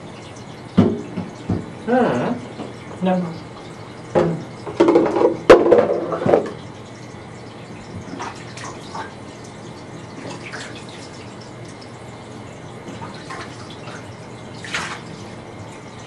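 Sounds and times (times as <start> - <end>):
water splashing in a bathtub: 0.0 - 16.0.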